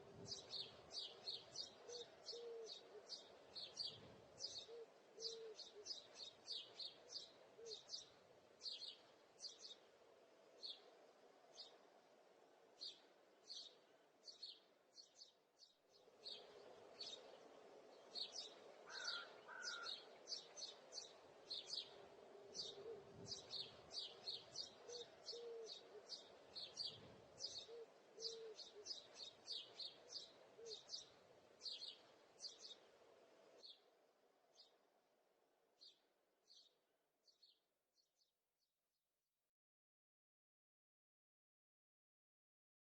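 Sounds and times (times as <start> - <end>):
small birds chirping: 0.0 - 34.9, 35.8 - 38.3.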